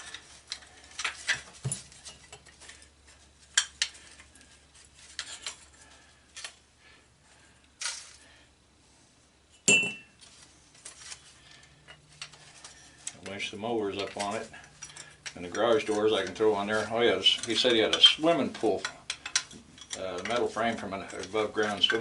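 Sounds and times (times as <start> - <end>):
scrap metal pieces clinking: 0.0 - 6.6, 10.2 - 22.0.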